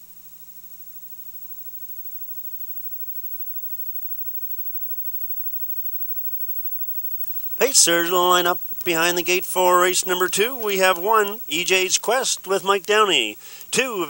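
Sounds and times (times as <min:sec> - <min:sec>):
low electrical hum: 0:00.0 - 0:14.0
steady hiss: 0:00.0 - 0:14.0.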